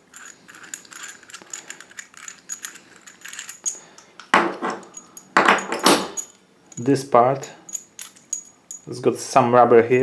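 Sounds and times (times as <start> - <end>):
metal valve parts clinking: 0.0 - 9.1.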